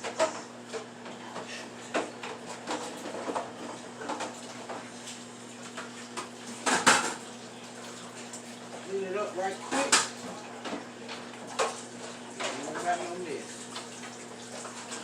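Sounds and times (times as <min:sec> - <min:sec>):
low appliance hum: 0:00.0 - 0:15.0.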